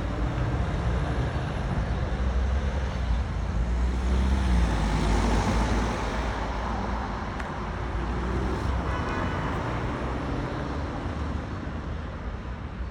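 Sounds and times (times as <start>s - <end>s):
road traffic noise: 0.0s - 12.9s.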